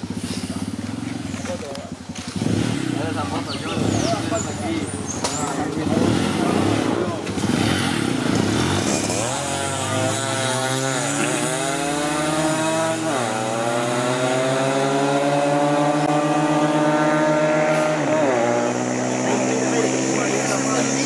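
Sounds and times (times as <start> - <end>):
racing motorcycle engine accelerating: 0.0 - 21.0.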